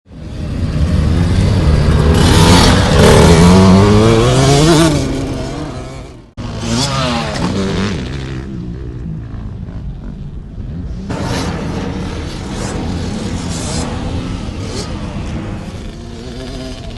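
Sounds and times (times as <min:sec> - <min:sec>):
motocross bike engine revving: 0:00.1 - 0:16.9.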